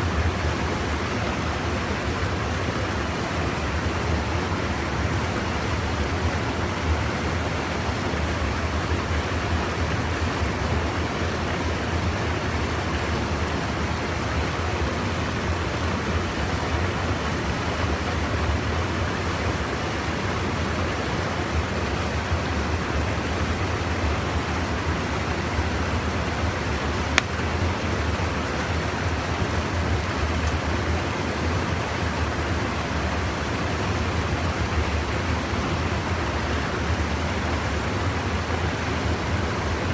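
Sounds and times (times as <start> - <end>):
river water pouring over weir: 0.0 - 39.9.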